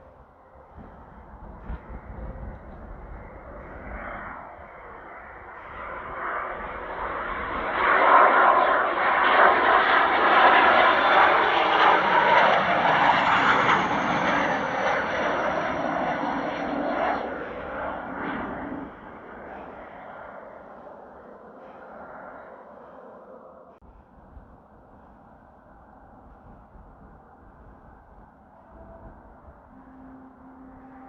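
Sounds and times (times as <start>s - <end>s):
jet engines roaring past: 0.0s - 31.0s.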